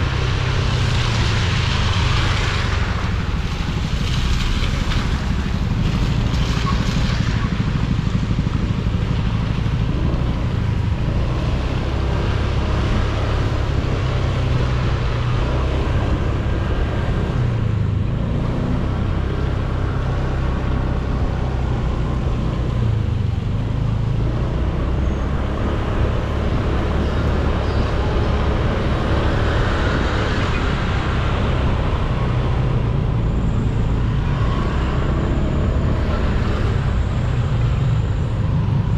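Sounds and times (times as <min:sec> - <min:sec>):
road noise on wet pavement: 0:00.0 - 0:38.9.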